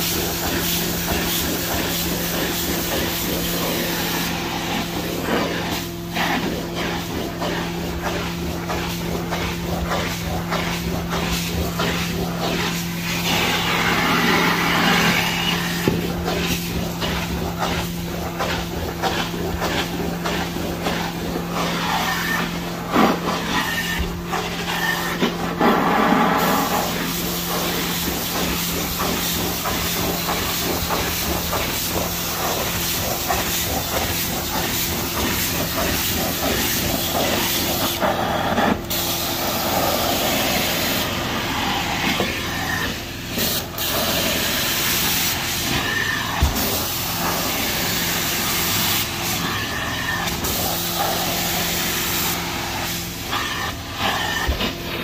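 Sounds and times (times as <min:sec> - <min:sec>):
spray and vacuum suction hiss: 0:00.0 - 0:55.0.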